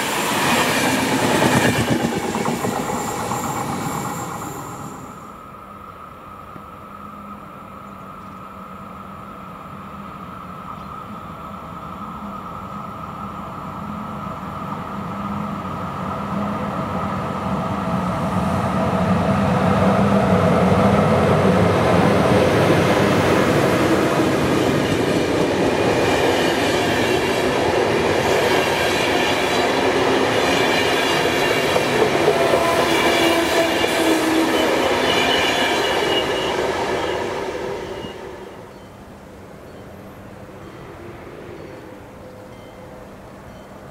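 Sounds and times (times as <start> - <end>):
train wheels on rail: 0.0 - 5.6, 10.2 - 43.9
electric locomotive hum: 0.0 - 43.9.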